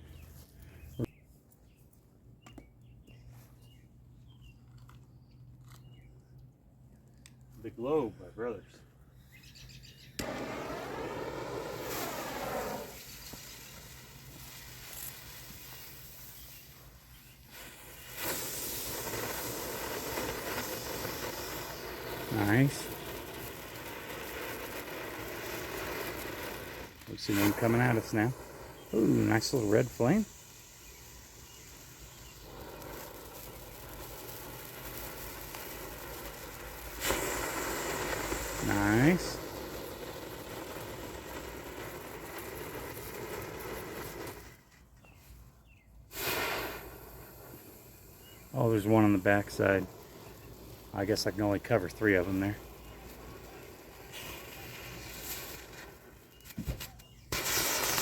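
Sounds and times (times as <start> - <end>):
firework fountain hissing: 10.2 - 44.7, 46.0 - 58.0.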